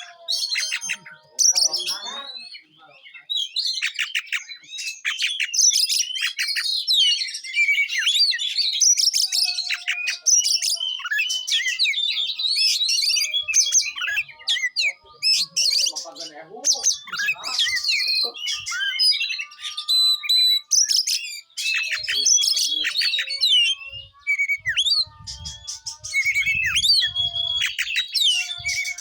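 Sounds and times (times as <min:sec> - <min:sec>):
bird singing rapid chirps and trills: 0:00.0 - 0:29.0.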